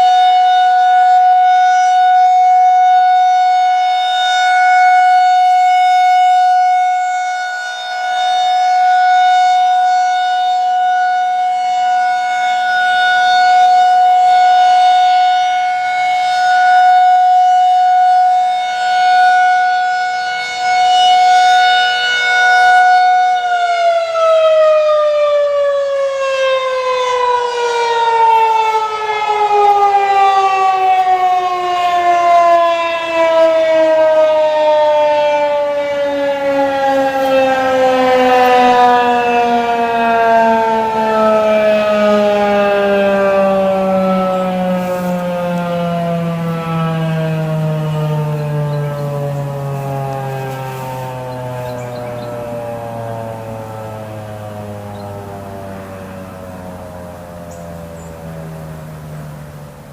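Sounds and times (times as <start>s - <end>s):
outdoor warning siren wailing: 0.0s - 59.9s.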